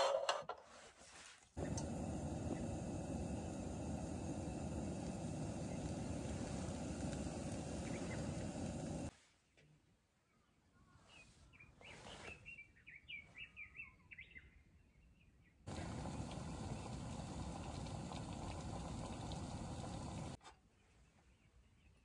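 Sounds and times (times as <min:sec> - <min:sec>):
small bird singing: 0:01.6 - 0:09.1, 0:10.2 - 0:22.0.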